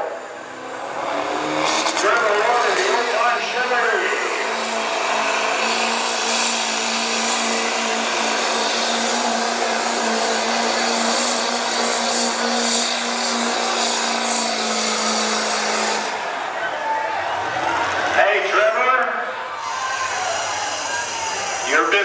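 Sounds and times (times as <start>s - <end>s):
diesel engine at full throttle: 0.0s - 22.0s.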